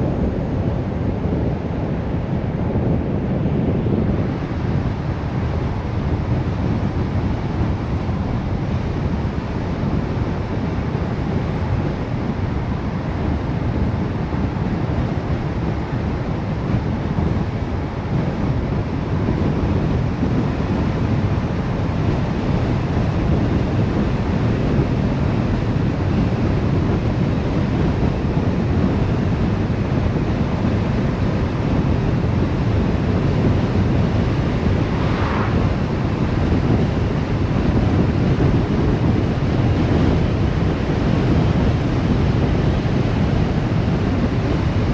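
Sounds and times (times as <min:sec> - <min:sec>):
car road and wind noise: 0:00.0 - 0:44.9.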